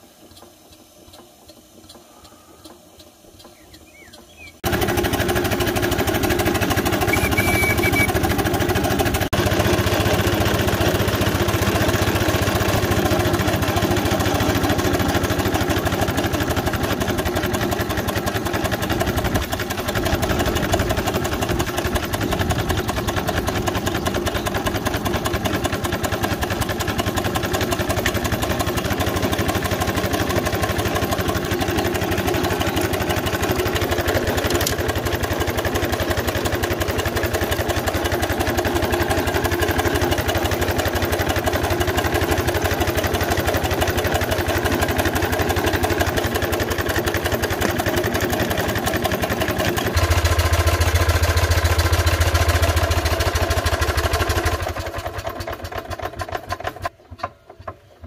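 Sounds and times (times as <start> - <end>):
steam traction engine running: 0.0 - 57.8.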